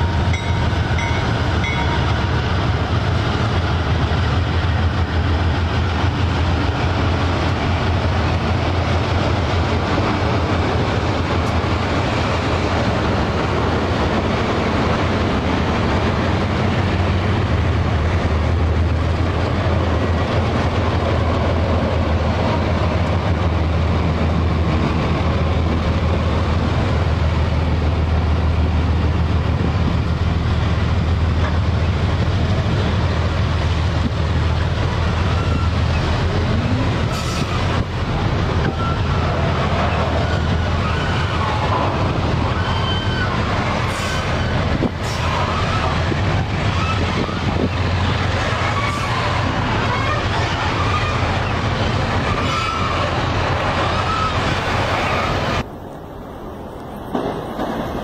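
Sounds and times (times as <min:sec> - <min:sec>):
diesel locomotive engines droning: 0:00.0 - 0:58.0
train on rails: 0:00.0 - 0:58.0.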